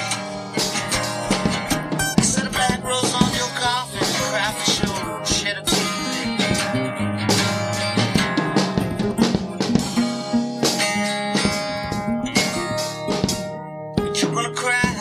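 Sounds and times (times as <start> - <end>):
drum kit beat: 0.0 - 15.0
guitar playing: 0.0 - 15.0.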